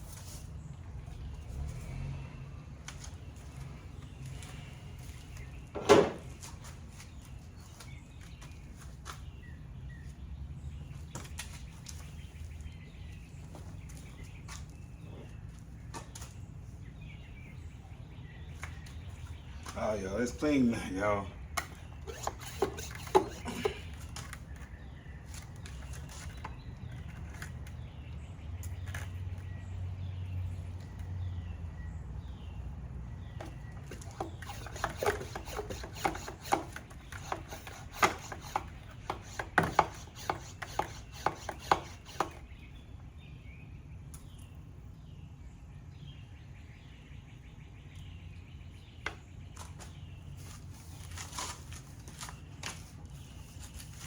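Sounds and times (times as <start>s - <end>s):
low background hum: 0.0s - 54.0s
bird chirping: 3.0s - 54.0s.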